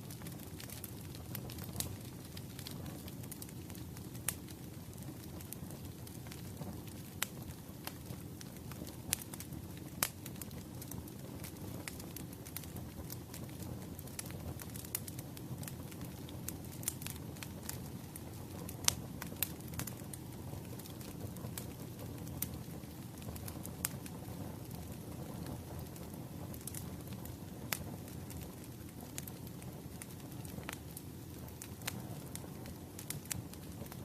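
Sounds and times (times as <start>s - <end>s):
firewood crackling and popping: 0.0s - 34.0s
wood fire low rushing rumble: 0.0s - 34.0s.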